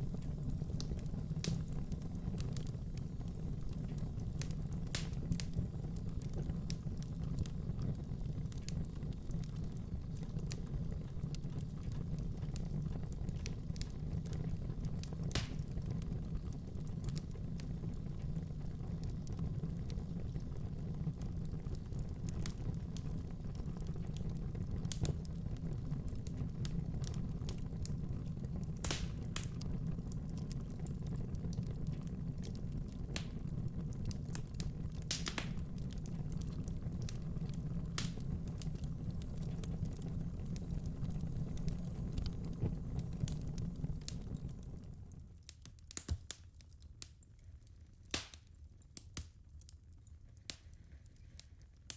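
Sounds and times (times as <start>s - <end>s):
fire crackles and pops: 0.0s - 51.9s
low rumble of fire flames: 0.0s - 51.9s.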